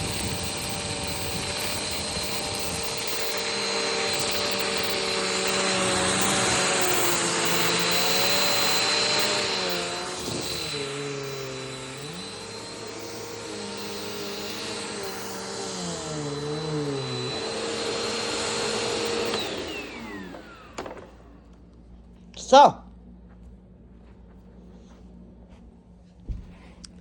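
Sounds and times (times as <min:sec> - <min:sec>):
upright vacuum running: 0:00.0 - 0:27.0.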